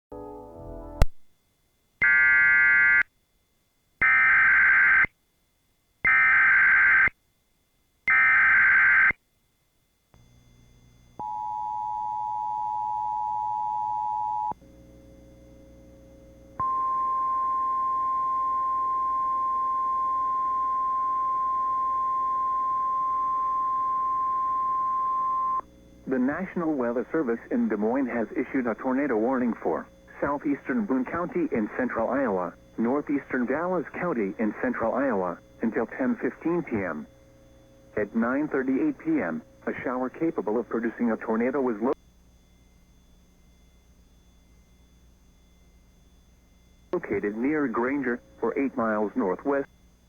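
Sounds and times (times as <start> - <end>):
quiet hum: 9.3 - 50.0.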